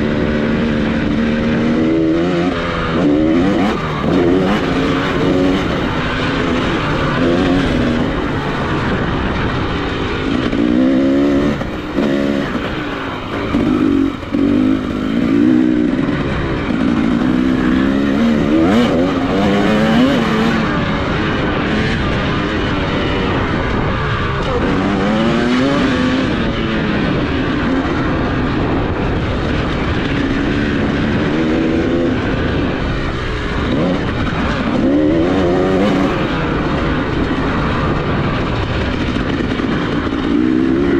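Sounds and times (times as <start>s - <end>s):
off-road motorcycle engine revving: 0.0s - 40.9s.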